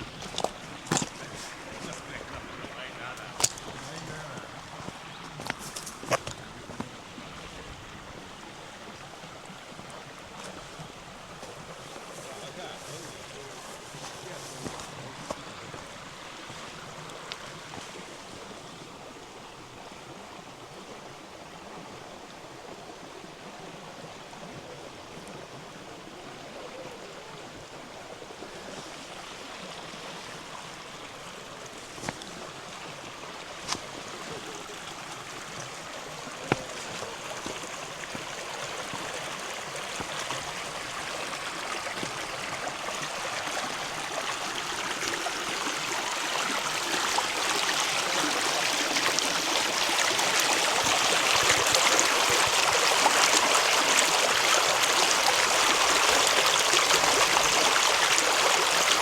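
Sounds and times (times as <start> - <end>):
river water running over stones: 0.0 - 59.0.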